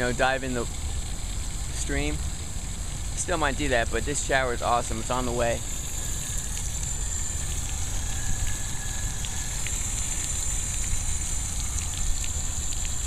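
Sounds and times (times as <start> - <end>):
shower water hissing: 0.0 - 13.0
water drips and splashes: 0.0 - 13.0.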